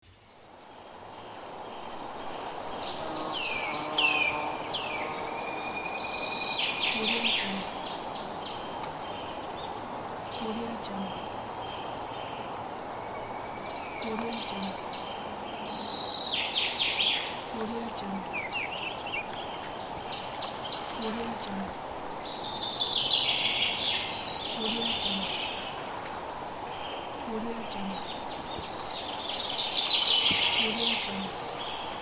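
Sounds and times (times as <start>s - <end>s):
birds chirping and trilling: 2.2s - 25.9s, 26.6s - 32.0s
high-pitched insect drone: 2.3s - 32.0s.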